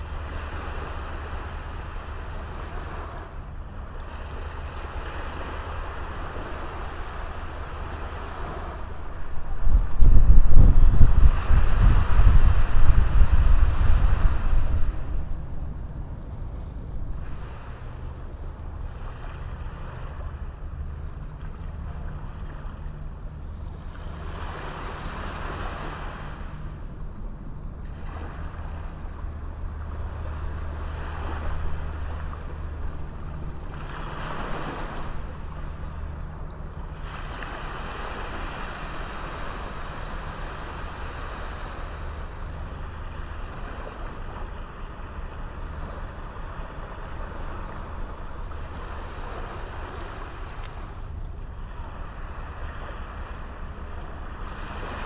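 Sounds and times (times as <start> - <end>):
sea waves breaking on beach: 0.0 - 55.0
wind rumble on microphone: 0.0 - 55.0.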